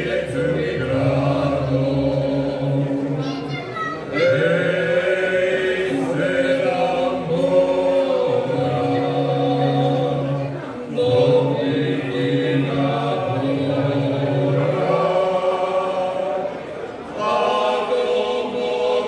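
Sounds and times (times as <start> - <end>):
men's choir singing a cappella: 0.0 - 3.2, 4.1 - 19.0.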